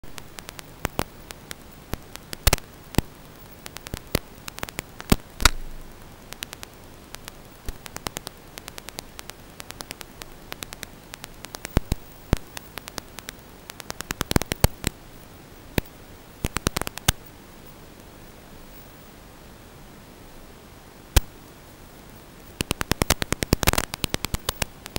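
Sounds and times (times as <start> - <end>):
radio static hiss: 0.0 - 24.9
static crackles and pops: 0.0 - 24.9.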